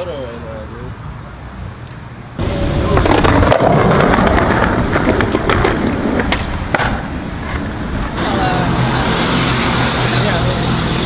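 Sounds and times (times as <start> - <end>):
skateboard wheels rolling on pavement: 0.0 - 11.0.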